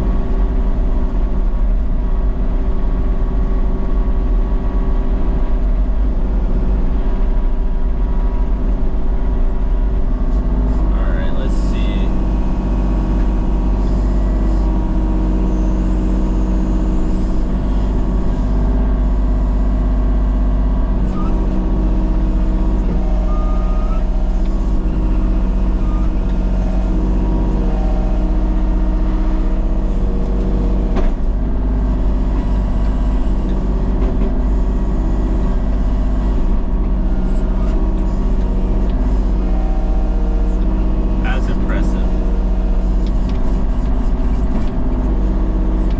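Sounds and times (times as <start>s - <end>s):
heavy machine engine running: 0.0s - 45.9s.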